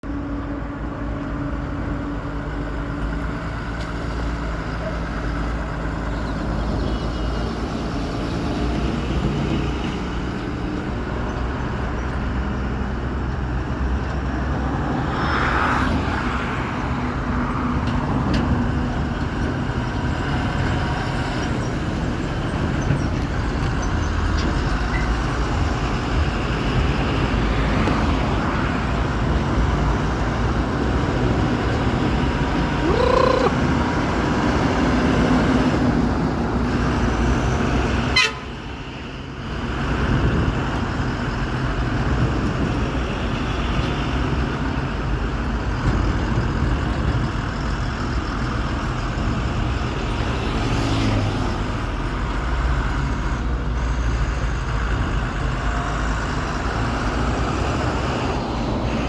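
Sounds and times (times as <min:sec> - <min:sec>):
diesel engine rumbling: 0:00.0 - 0:15.1, 0:15.9 - 0:59.0.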